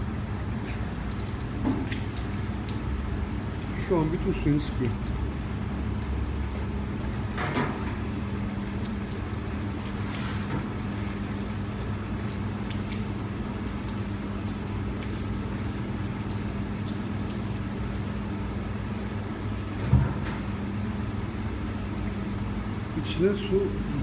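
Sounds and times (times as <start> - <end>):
constant low hum: 0.0 - 24.0
juice trickling into plastic tub: 0.0 - 24.0.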